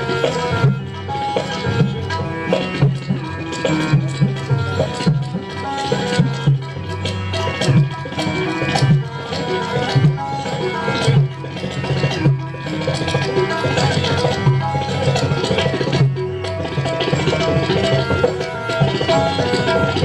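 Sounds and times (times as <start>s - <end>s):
keyboard melody: 0.0s - 20.0s
tabla-style percussion: 0.0s - 20.0s.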